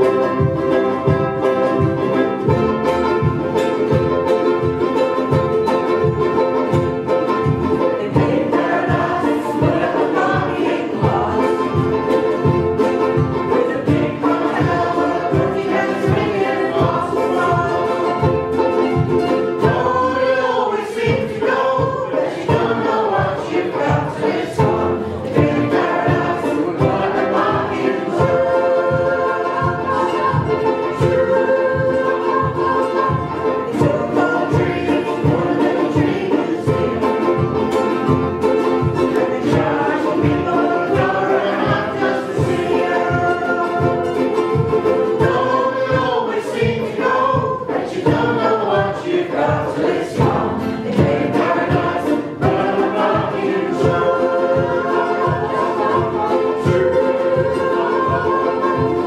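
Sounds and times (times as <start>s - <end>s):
ukulele orchestra strumming: 0.0s - 59.0s
upright double bass: 0.0s - 59.0s
voices singing together: 0.0s - 59.0s.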